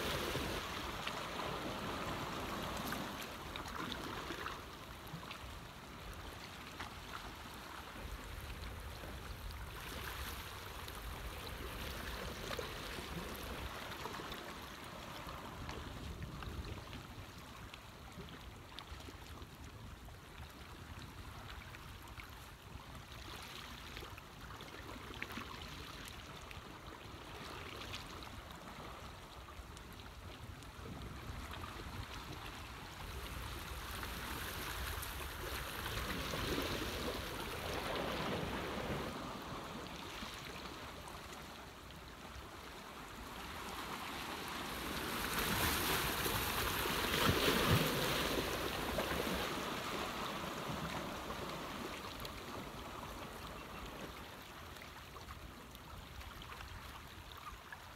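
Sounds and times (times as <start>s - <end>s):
water rushing and sloshing: 0.0s - 57.9s.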